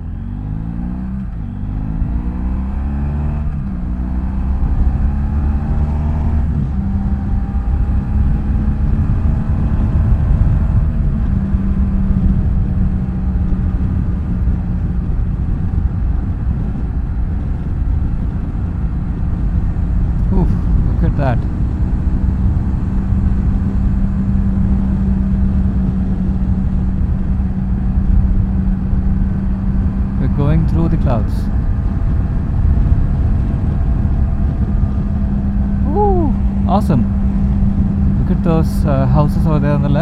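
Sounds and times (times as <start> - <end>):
road and wind noise: 0.0 - 40.0.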